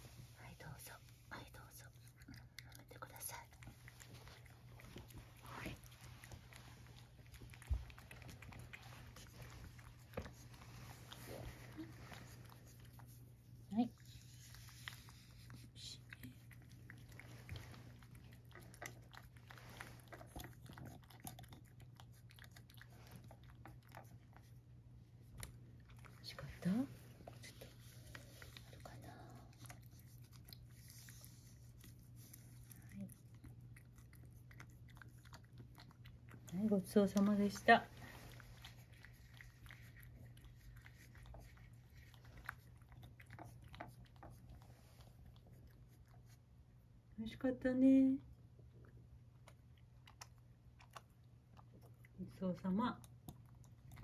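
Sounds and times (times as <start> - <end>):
low steady hum: 0.0 - 54.0
cat lapping food: 0.1 - 47.1, 48.2 - 54.0.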